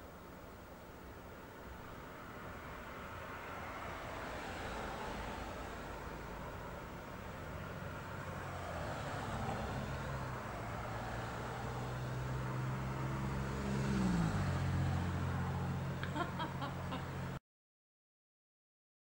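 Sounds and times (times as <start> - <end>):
cars passing: 1.0 - 17.4.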